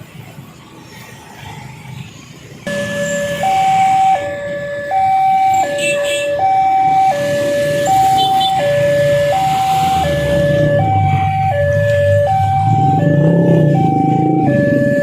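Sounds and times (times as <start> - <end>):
level-crossing two-tone alarm: 2.7 - 15.0.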